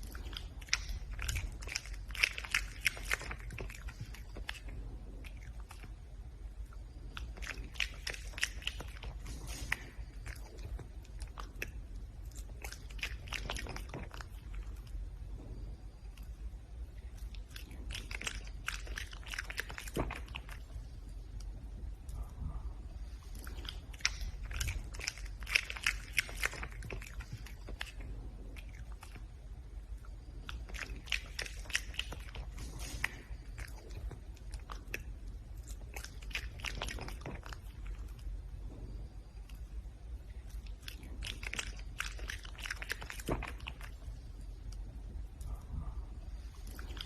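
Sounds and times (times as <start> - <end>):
animal crunching food: 0.0 - 47.0.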